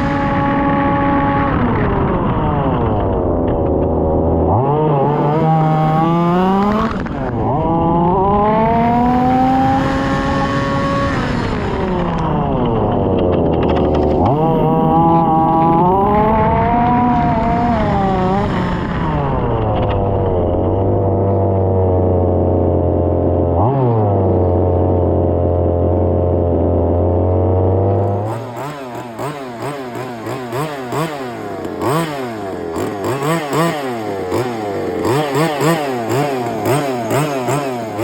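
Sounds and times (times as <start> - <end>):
small two-stroke engine revving: 0.0 - 38.0.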